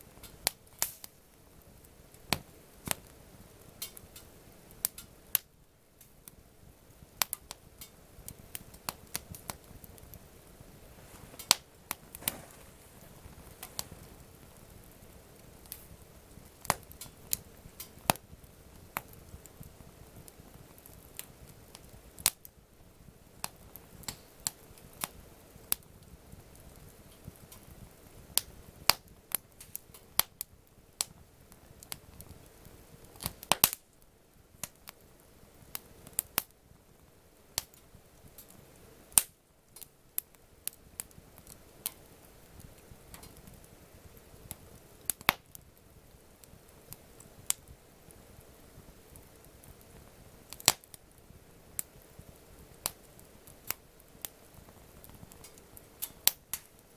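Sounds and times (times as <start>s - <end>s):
campfire crackling: 0.0s - 56.9s
low steady hiss: 0.0s - 56.9s.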